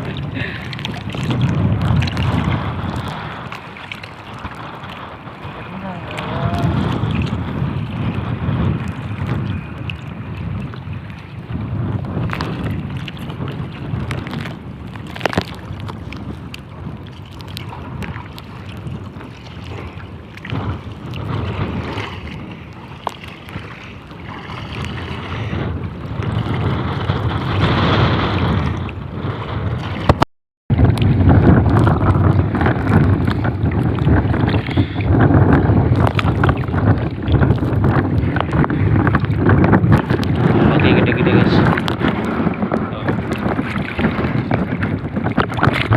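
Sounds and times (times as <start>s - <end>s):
strong wind buffeting microphone: 0.0s - 45.9s.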